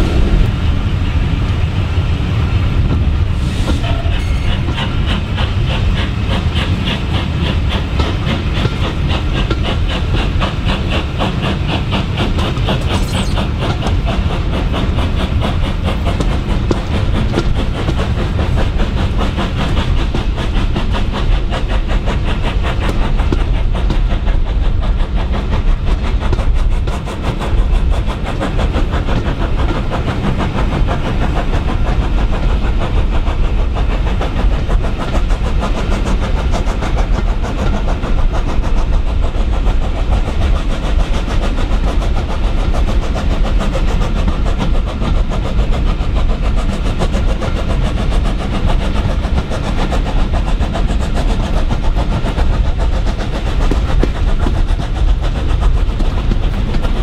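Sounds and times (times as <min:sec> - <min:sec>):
steam locomotive exhaust beats: 0:00.0 - 0:57.0
train coaches running on rails: 0:00.0 - 0:57.0.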